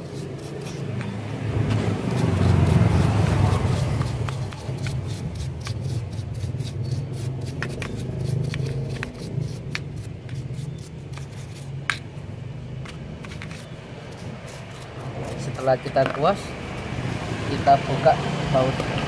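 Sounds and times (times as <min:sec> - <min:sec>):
brush scrubbing metal: 0:00.0 - 0:12.1, 0:12.8 - 0:16.4.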